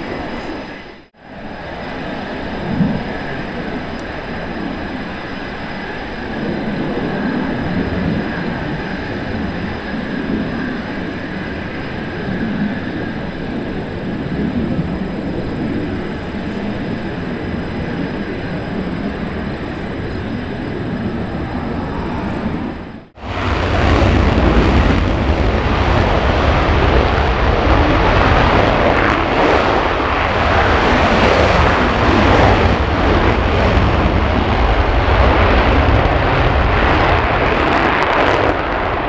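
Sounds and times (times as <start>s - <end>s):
jet engines rumbling and whining: 0.0s - 39.0s.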